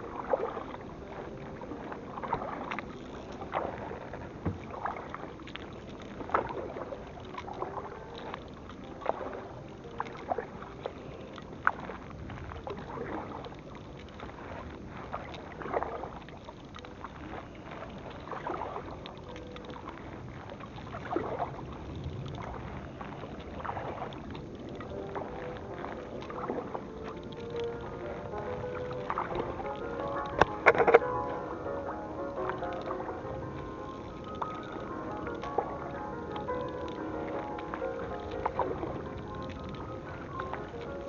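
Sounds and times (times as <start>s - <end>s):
paddle splashing in water: 0.0s - 41.0s
steady wash of water: 0.0s - 41.0s.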